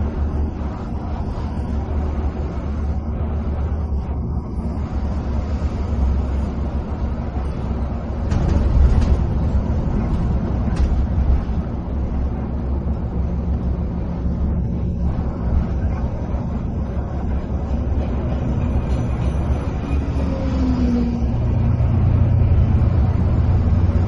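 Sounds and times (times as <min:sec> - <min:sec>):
bus engine running: 0:00.0 - 0:24.0
tyres droning on road: 0:00.0 - 0:24.0.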